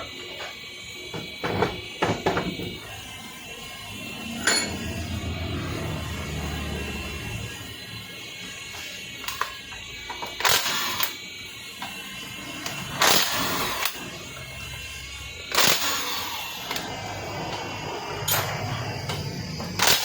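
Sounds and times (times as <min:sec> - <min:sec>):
loud bursts of workbench noise: 0:01.1 - 0:20.0.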